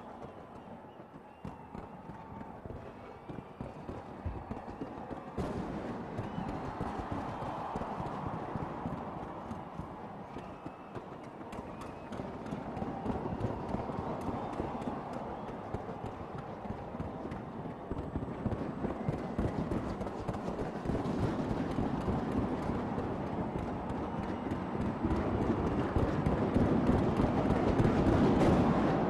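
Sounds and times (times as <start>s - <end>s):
fireworks crackling: 0.1s - 29.0s.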